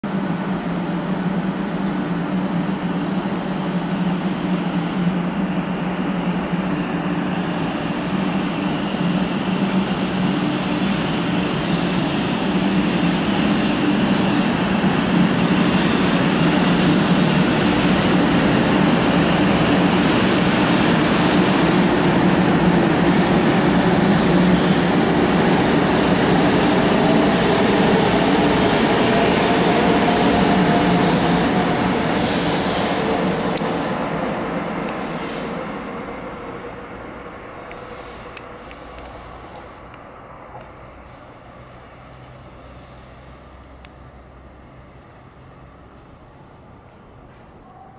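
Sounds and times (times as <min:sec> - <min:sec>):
train motors humming: 0:00.3 - 0:47.7.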